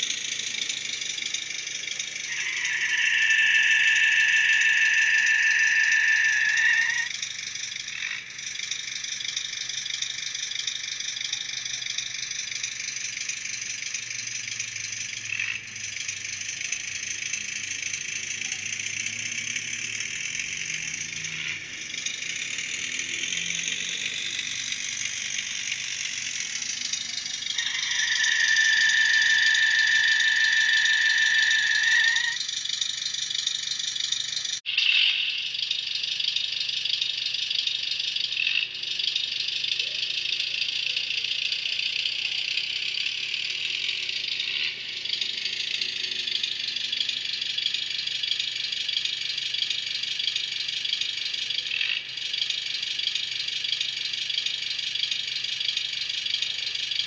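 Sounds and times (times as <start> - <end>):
thin hissy model engine sound: 0.0 - 34.6, 35.6 - 57.0.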